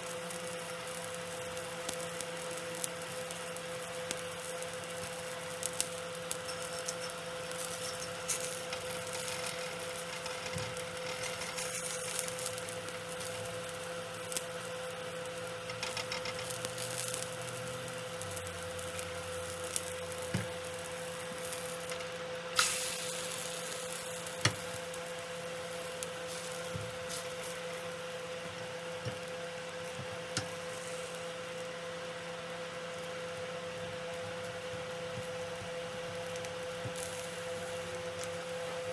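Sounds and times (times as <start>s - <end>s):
constant hum: 0.0s - 38.9s
egg sizzling in a pan: 0.0s - 38.9s.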